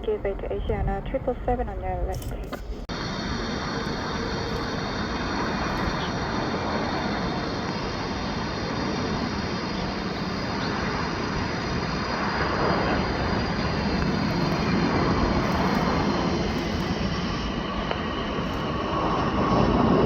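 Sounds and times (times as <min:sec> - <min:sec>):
faint high whine: 0:00.0 - 0:20.0
jet airliner engines roaring: 0:00.0 - 0:20.0.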